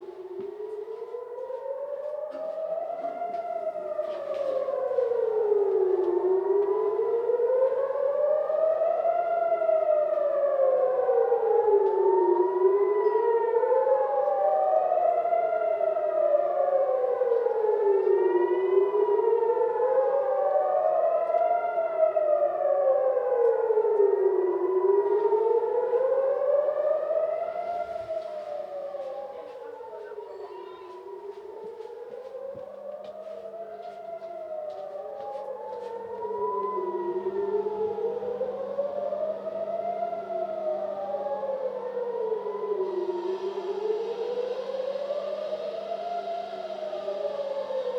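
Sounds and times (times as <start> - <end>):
air-raid sirens wailing: 0.0 - 47.9.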